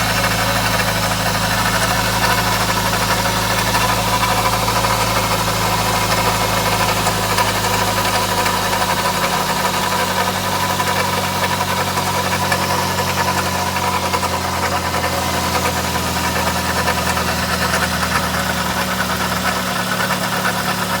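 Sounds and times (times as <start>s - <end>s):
car engine idling: 0.0s - 21.0s
engine rattling: 0.0s - 21.0s.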